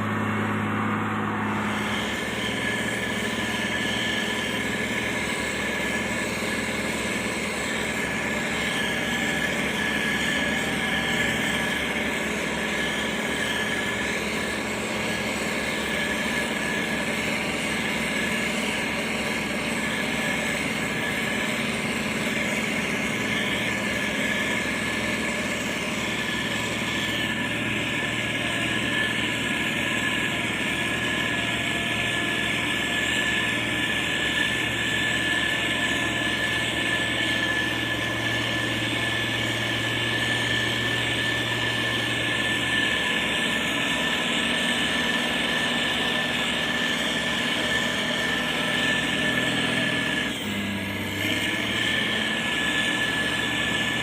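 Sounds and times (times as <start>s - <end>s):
diesel machinery engine running: 0.0s - 54.0s
high whine: 0.0s - 54.0s.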